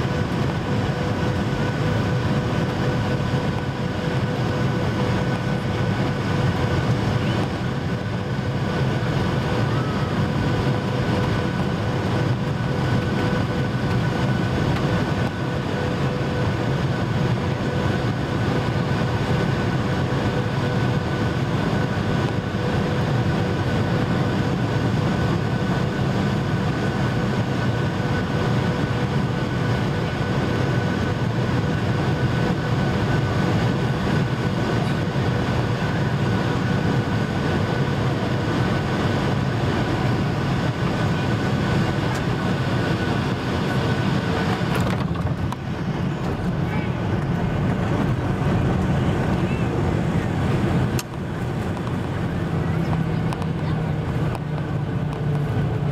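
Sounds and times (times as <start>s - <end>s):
airplane cabin engine rumble: 0.0s - 55.9s
steady whine: 0.0s - 55.9s.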